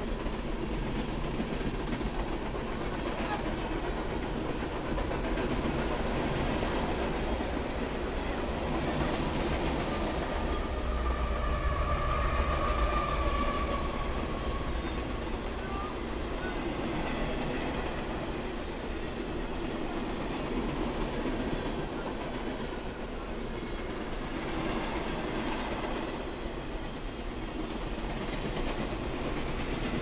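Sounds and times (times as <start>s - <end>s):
diesel locomotive engine drone: 0.0s - 30.0s
train wheels clattering on rails: 0.0s - 30.0s.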